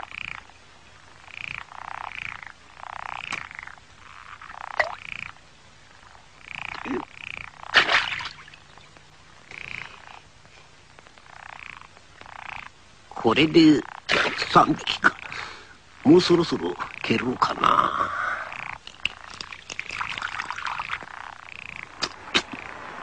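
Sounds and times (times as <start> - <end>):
frogs croaking: 0.0 - 23.0.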